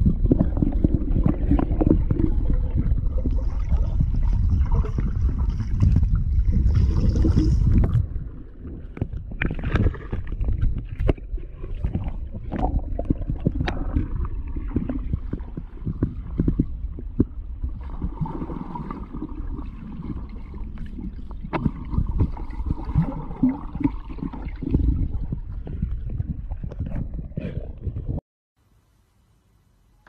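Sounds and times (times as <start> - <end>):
water splashes: 0.0 - 27.4
muffled underwater rumbling and gurgling: 0.0 - 28.2.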